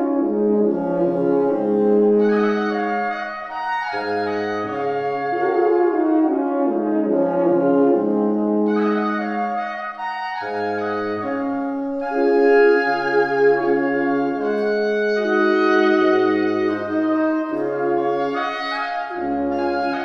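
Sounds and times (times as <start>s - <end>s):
horns holding chords: 0.0s - 20.0s
wind ensemble chamber music: 0.0s - 20.0s.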